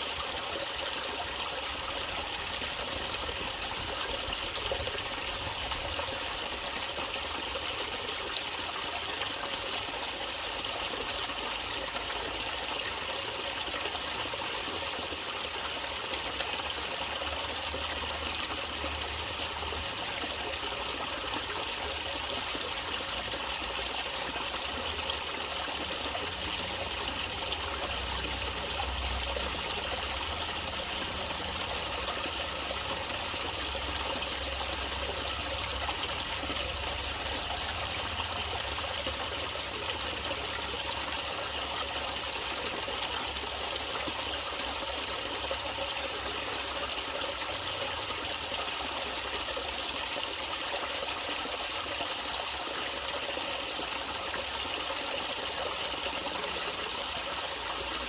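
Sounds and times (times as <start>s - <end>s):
water trickling over stones: 0.0s - 58.0s.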